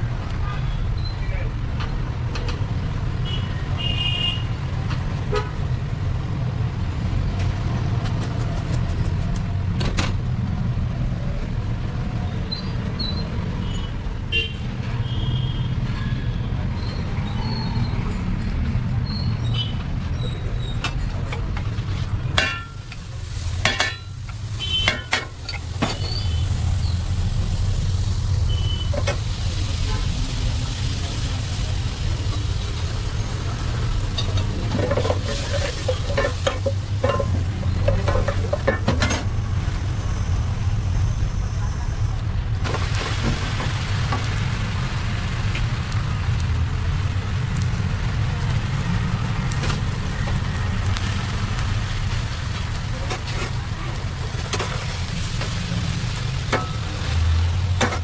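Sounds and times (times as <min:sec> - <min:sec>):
street traffic rumble: 0:00.0 - 0:58.0.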